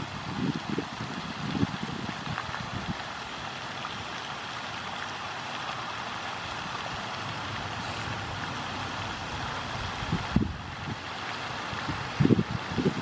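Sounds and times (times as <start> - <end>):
wind through tree leaves: 0.0 - 13.0.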